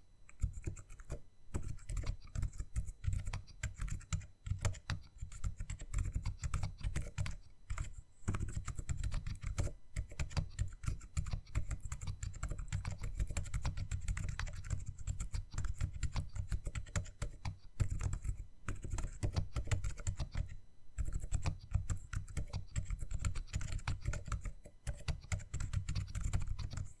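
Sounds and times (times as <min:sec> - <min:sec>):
fast typing on mechanical keyboard: 0:00.4 - 0:27.0.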